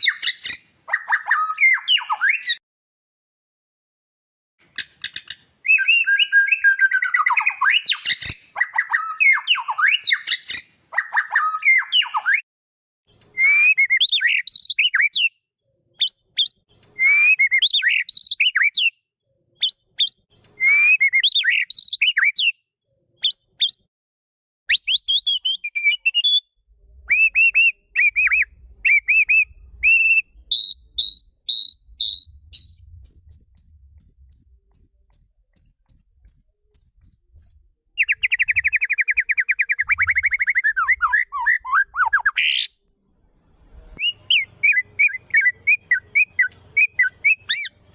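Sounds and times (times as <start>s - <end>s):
bird trill: 0.0s - 2.6s, 4.8s - 12.4s, 13.3s - 15.4s, 19.6s - 22.6s, 24.7s - 47.9s
songbird whistling: 0.0s - 2.6s, 4.8s - 12.4s, 13.3s - 15.4s, 16.0s - 19.0s, 19.6s - 22.6s, 23.2s - 23.9s, 24.7s - 47.9s.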